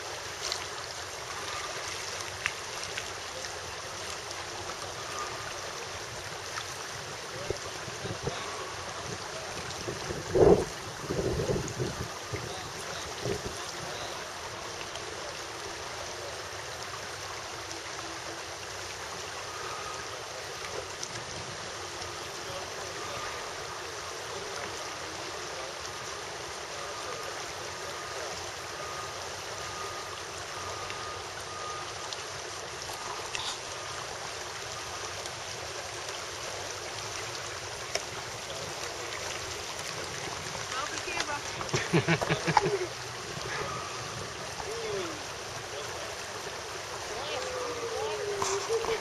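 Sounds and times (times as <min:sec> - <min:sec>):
river water rushing: 0:00.0 - 0:49.0.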